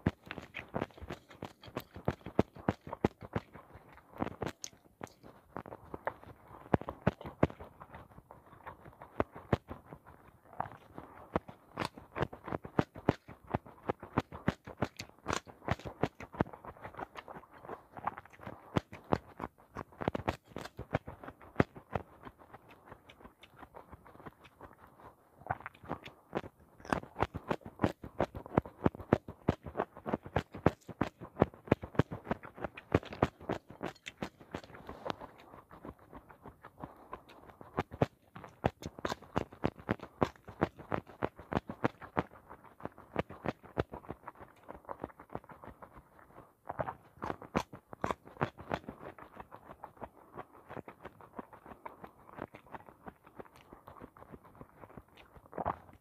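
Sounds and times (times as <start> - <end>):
wet mouth clicks: 0.1 - 9.9, 10.5 - 42.3, 46.7 - 50.0.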